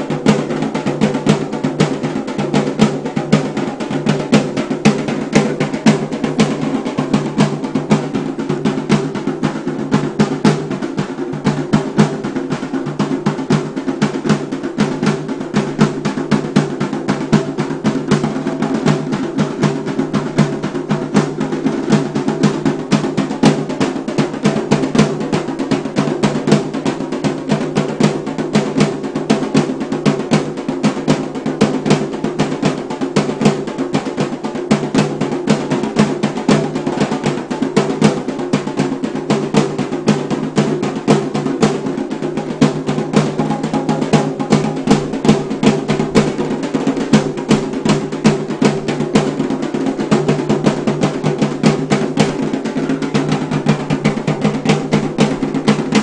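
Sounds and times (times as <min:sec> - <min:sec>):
barrel drums beaten in fast rhythm: 0:00.0 - 0:56.0.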